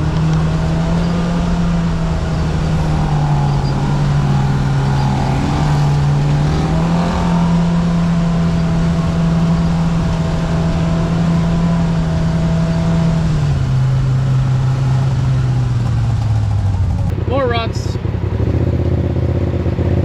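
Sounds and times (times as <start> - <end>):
utv engine running: 0.0 - 20.0.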